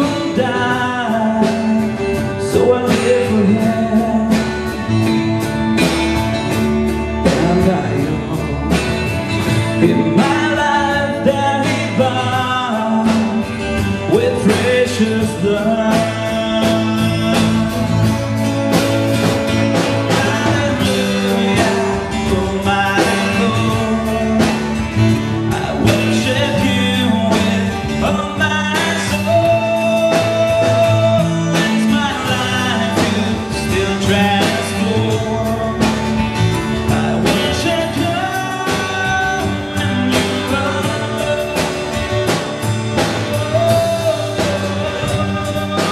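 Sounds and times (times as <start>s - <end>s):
live band playing: 0.0s - 45.9s.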